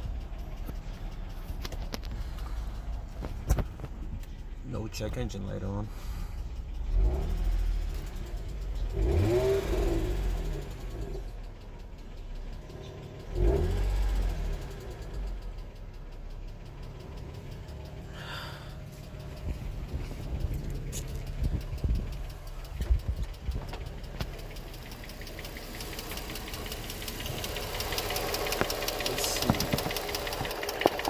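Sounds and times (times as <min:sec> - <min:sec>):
car engine idling and revving: 0:00.0 - 0:31.0
engine knocking noise: 0:00.0 - 0:31.0.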